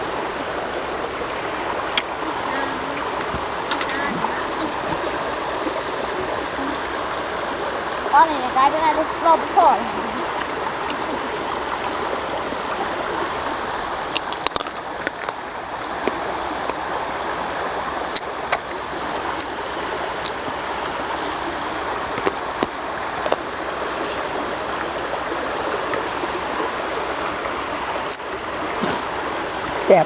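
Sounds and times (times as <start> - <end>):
stream flowing over rock: 0.0 - 30.0.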